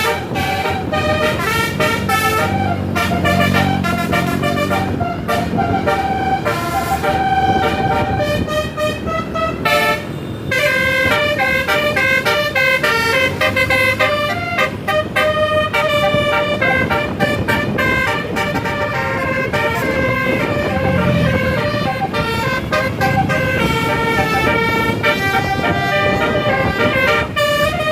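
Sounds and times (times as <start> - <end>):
bus horn playing a melody: 0.0 - 27.9.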